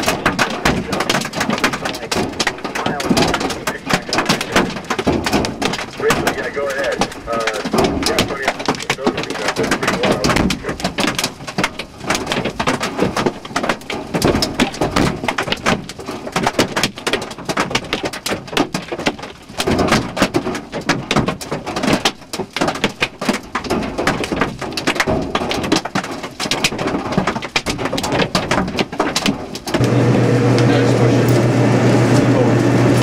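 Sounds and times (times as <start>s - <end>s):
rain noise: 0.0s - 18.2s, 19.2s - 33.0s
hail pelting car roof: 0.0s - 33.0s.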